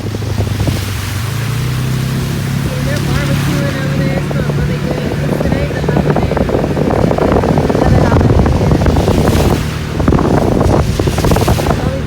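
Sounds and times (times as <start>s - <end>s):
floodwater splashing against car: 0.0s - 12.0s
hissing water splashes: 0.0s - 12.0s.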